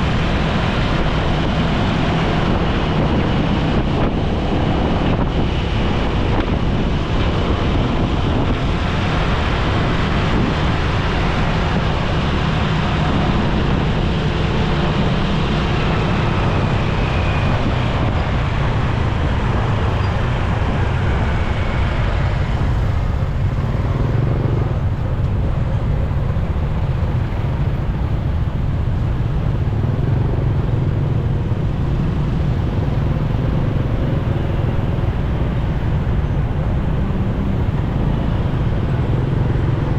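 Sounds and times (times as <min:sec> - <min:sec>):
motorcycle engine running: 0:00.0 - 0:39.9
road and wind noise: 0:00.0 - 0:39.9
surrounding vehicles: 0:00.0 - 0:39.9.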